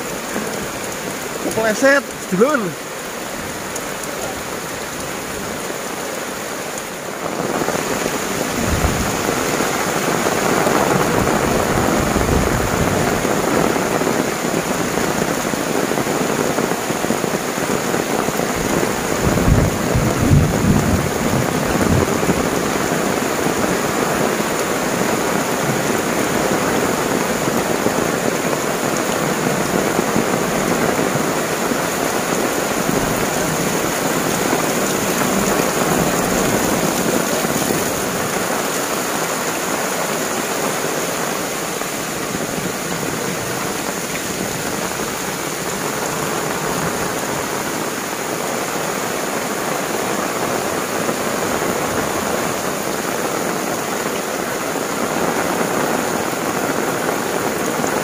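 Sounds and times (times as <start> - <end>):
heavy rain on roof tiles: 0.0 - 58.0.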